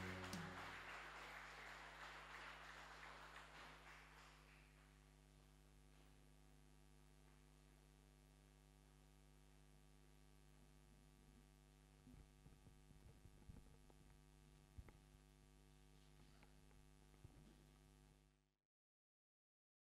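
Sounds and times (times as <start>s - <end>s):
faint electrical mains hum: 0.0s - 18.4s.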